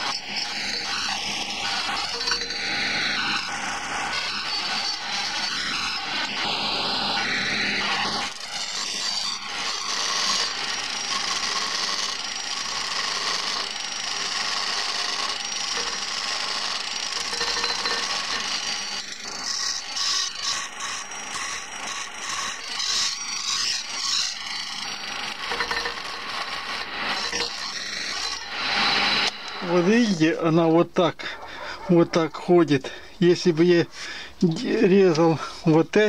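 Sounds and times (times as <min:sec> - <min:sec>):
wood lathe spinning: 0:00.0 - 0:30.7.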